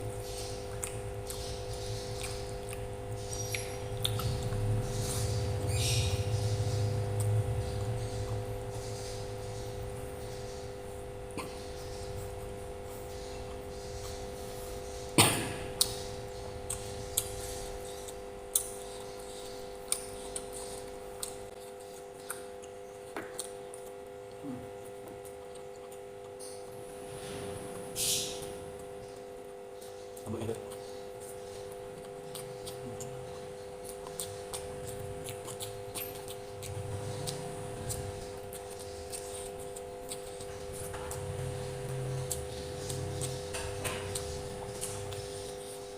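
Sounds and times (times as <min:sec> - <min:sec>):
steady low hum: 0:00.0 - 0:45.9
chewing and mouth smacking: 0:00.2 - 0:08.5, 0:11.3 - 0:26.8, 0:28.8 - 0:45.9.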